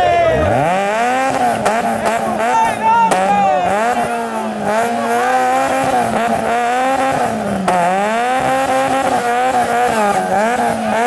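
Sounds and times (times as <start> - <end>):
car engine revving hard: 0.0 - 11.0.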